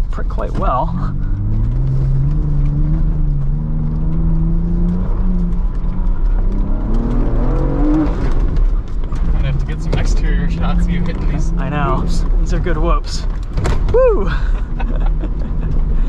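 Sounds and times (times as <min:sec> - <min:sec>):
body and suspension rattling: 0:00.0 - 0:16.0
car engine accelerating: 0:00.0 - 0:16.0.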